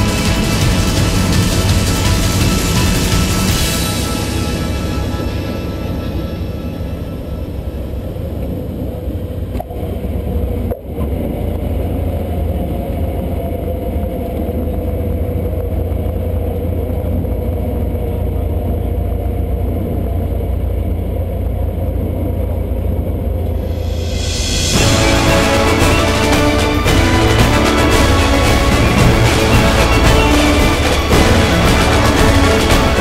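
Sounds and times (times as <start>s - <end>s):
airplane engine and propeller: 0.0s - 33.0s.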